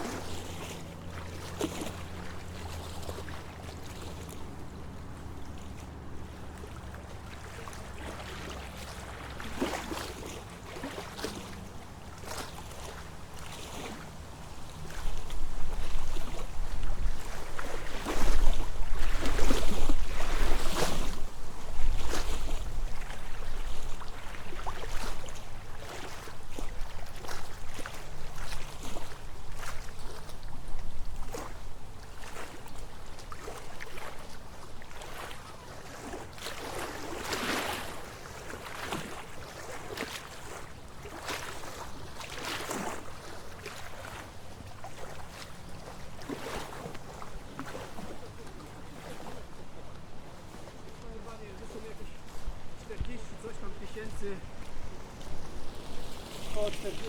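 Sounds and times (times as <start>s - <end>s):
wind rustling leaves in trees: 0.0s - 57.0s.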